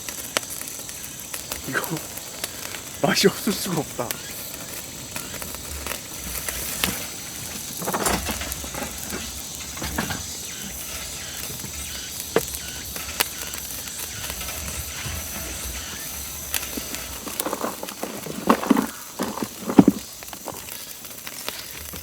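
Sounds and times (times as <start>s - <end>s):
ribs sizzling on a grill: 0.0s - 22.0s.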